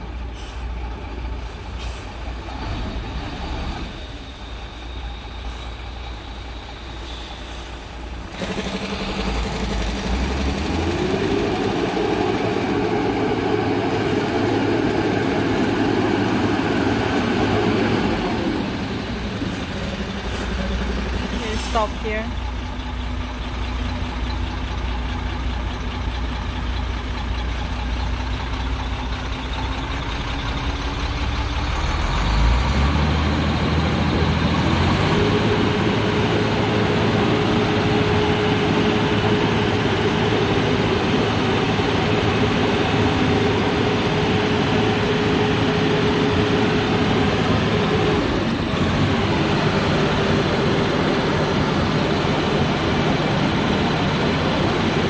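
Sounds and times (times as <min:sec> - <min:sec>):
diesel truck engine: 0:00.0 - 0:55.0.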